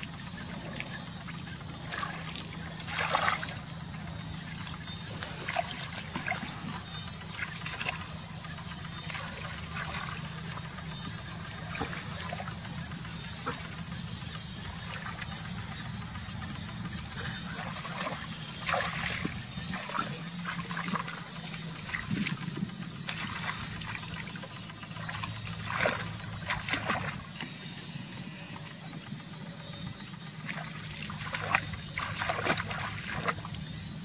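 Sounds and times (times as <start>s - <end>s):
water trickling: 0.0s - 15.5s, 16.5s - 27.3s, 30.5s - 33.6s
short water splashes: 0.0s - 15.6s, 16.7s - 27.5s, 30.4s - 33.7s.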